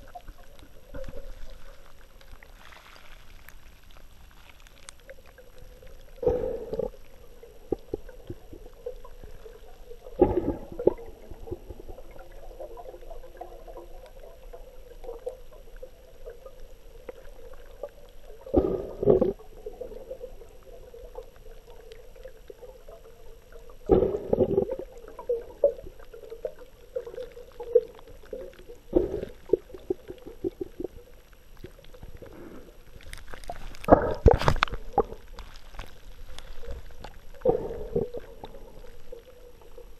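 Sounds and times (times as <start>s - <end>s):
muffled underwater water sloshing: 0.0s - 39.9s.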